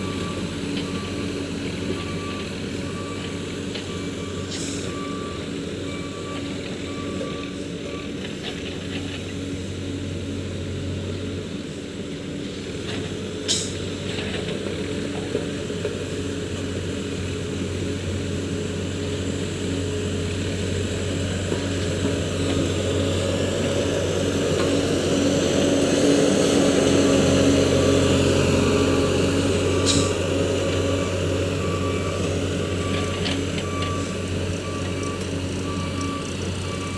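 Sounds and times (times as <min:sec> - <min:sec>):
road roller diesel engine running: 0:00.0 - 0:36.9.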